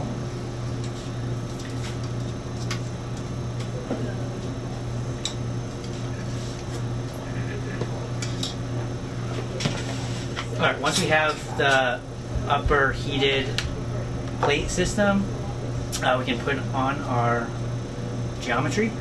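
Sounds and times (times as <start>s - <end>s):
lab equipment humming: 0.0s - 19.0s.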